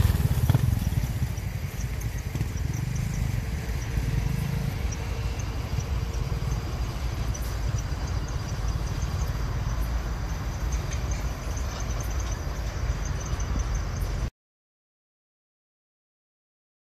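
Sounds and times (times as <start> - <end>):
freight train rolling past: 0.0 - 14.3.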